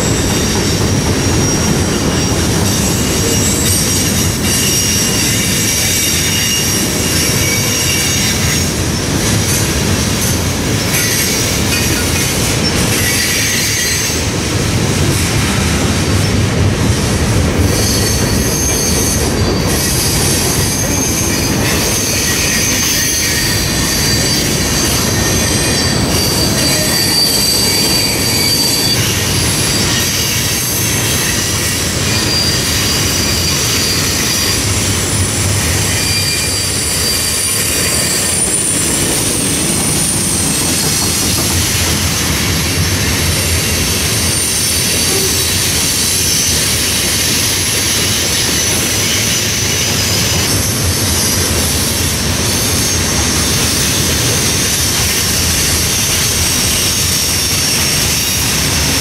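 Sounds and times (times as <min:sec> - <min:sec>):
wheel squeals: 0:00.0 - 0:14.3, 0:17.7 - 0:59.0
steel wheels rumbling on rail: 0:00.0 - 0:59.0.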